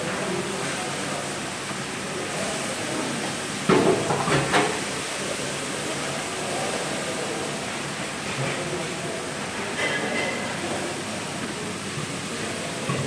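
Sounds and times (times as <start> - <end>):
restaurant kitchen hiss: 0.0 - 13.0.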